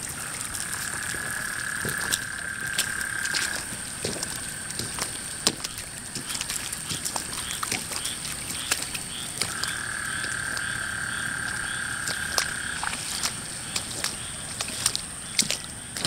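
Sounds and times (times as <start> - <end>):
frogs calling: 0.0 - 16.0.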